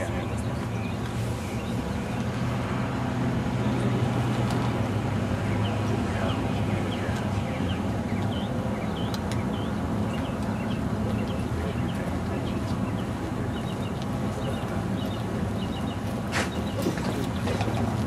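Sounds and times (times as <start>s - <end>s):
small birds chirping: 0.0s - 2.4s, 5.4s - 18.0s
road traffic rumble: 0.0s - 18.0s.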